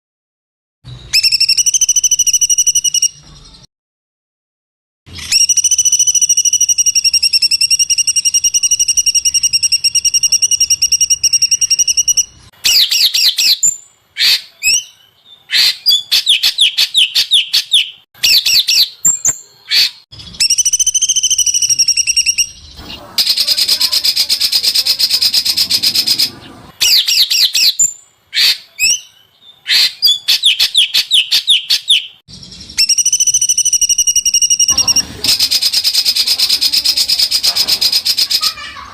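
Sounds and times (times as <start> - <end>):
bird chirps: 0.9 - 3.7, 5.1 - 38.9
songbirds trilling: 5.4 - 38.9.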